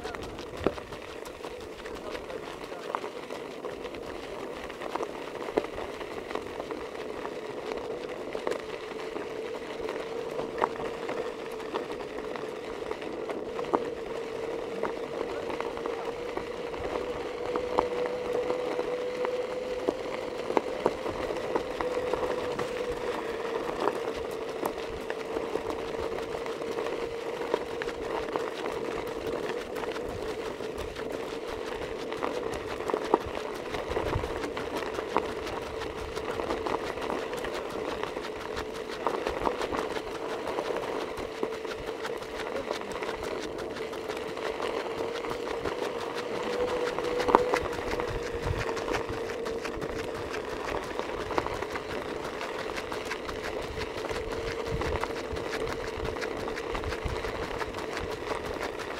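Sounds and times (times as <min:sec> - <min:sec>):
light fast ticks: 0:00.0 - 0:58.9
small motor whining: 0:00.0 - 0:58.9.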